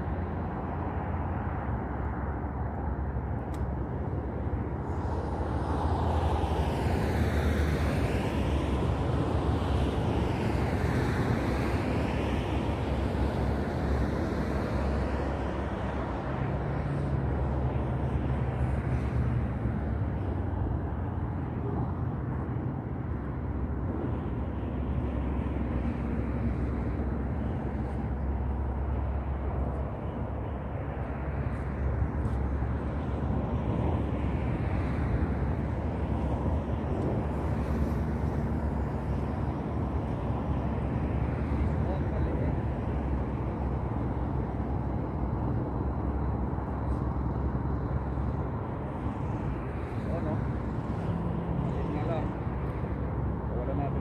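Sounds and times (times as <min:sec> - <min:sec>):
low rumble of traffic: 0:00.0 - 0:54.0
wind: 0:00.0 - 0:54.0.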